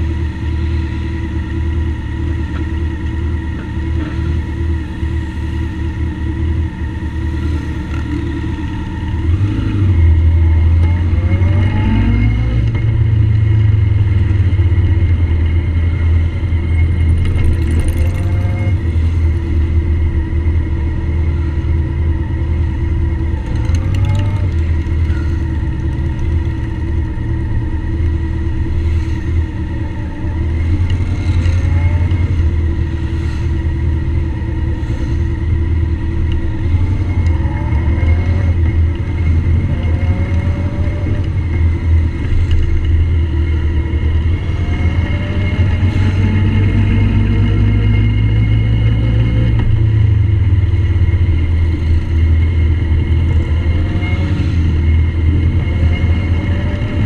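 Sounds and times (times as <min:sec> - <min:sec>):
motorcycle engines droning: 0:00.0 - 0:57.0.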